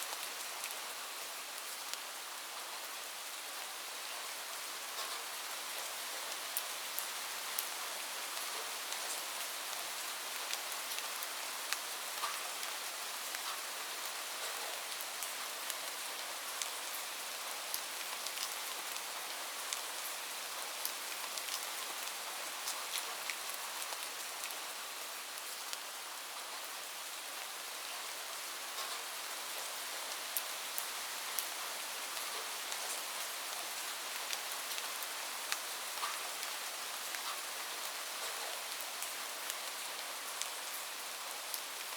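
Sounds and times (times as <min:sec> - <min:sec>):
light rain falling: 0:00.0 - 0:41.9.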